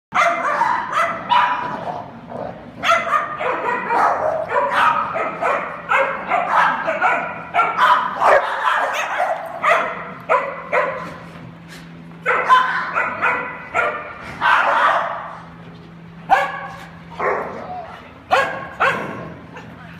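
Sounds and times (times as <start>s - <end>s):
dogs barking: 0.1s - 11.3s, 12.2s - 19.9s.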